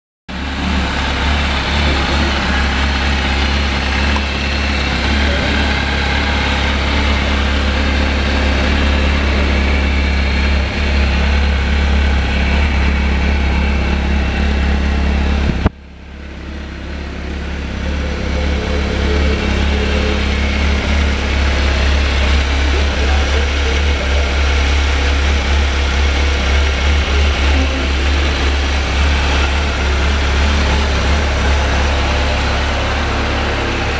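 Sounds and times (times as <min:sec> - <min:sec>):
motorcycle engine idling: 0:00.3 - 0:33.9.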